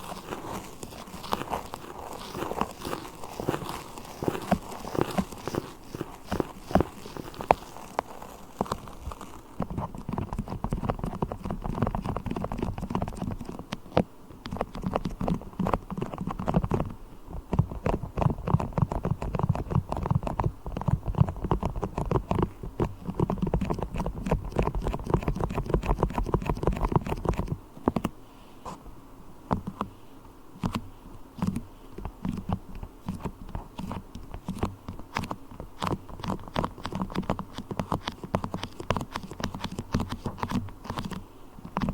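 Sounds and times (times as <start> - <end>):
sticky taps and crackles of wax: 0.0 - 28.2, 29.5 - 30.0, 30.6 - 41.9.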